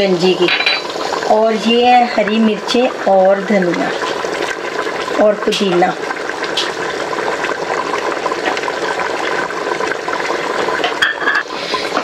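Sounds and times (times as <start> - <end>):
curry bubbling at a boil: 0.0 - 12.0.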